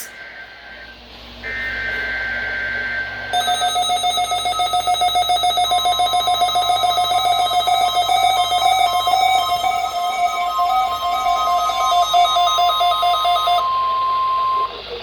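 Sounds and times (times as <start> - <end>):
fast alarm beeping: 0.0 - 15.0
high data tones: 0.0 - 15.0
long warning alarm tone: 0.0 - 15.0.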